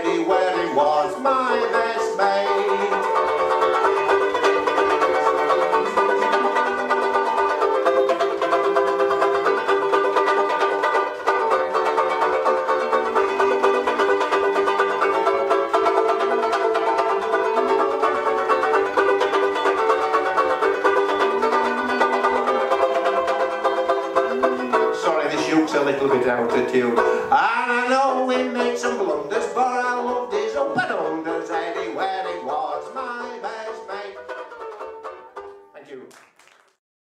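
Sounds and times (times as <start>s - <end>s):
banjo ukulele strummed fast: 0.0s - 35.7s.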